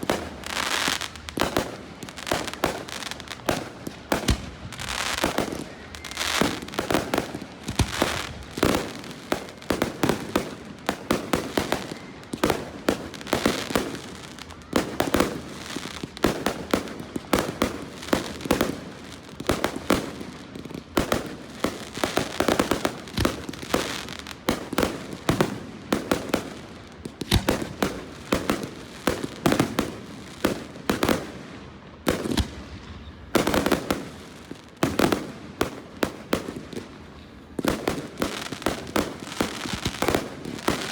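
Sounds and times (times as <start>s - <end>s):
fireworks bangs: 0.0s - 31.4s, 32.0s - 40.9s
fireworks crackling: 0.0s - 40.9s.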